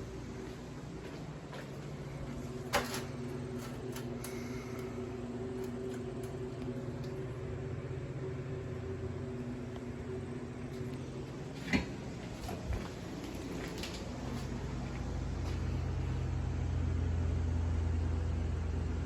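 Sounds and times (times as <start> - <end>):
air conditioning unit humming: 0.0 - 19.0.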